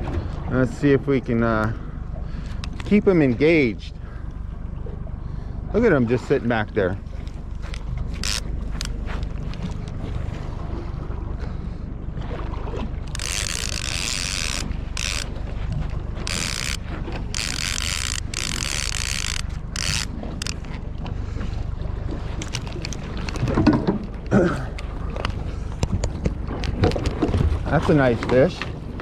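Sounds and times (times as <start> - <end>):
boat engine rumble: 0.0 - 29.0
water noise: 0.0 - 29.0
wind: 0.0 - 29.0.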